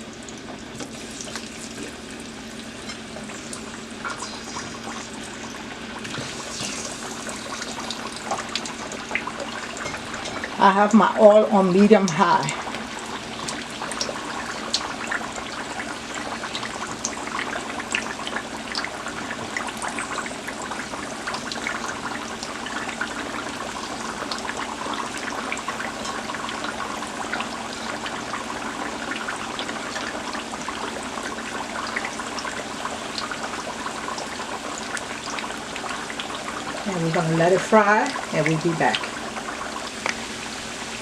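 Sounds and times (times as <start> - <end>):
fries sizzling in hot oil: 0.0 - 41.0.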